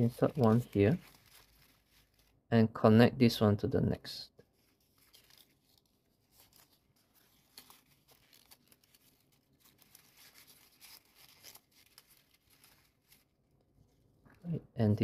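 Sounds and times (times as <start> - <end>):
stiff paper rustling and crinkling: 0.0 - 2.5, 4.4 - 14.2.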